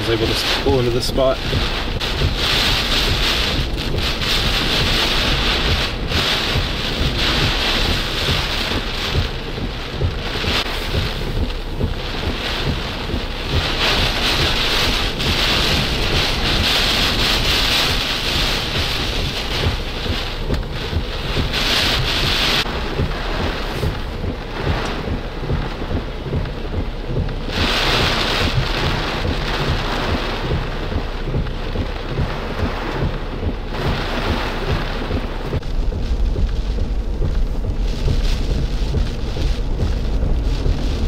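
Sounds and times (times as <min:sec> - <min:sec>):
driving rain: 0:00.0 - 0:41.0
hurricane wind: 0:00.0 - 0:41.0
wind buffeting microphone: 0:00.0 - 0:41.0.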